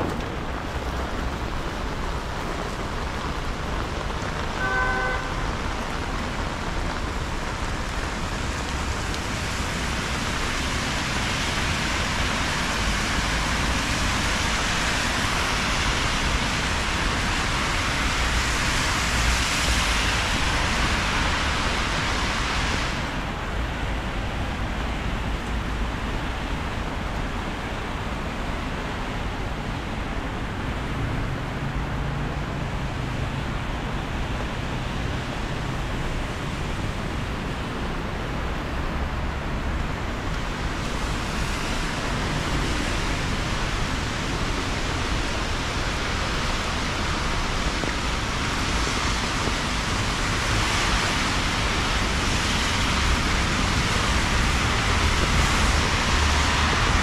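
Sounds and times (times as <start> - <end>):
rain on wet pavement: 0.0 - 57.0
traffic hissing on wet road: 0.0 - 57.0.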